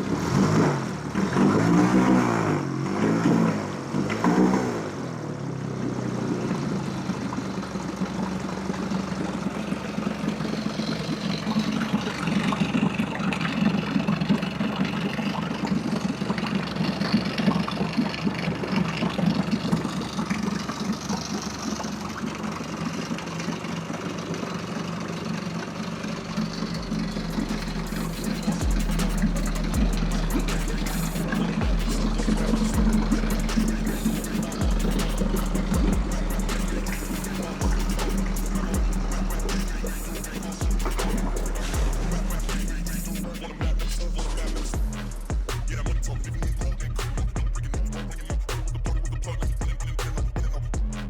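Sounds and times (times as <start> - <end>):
outboard motor idling: 0.0 - 2.9, 3.7 - 51.0.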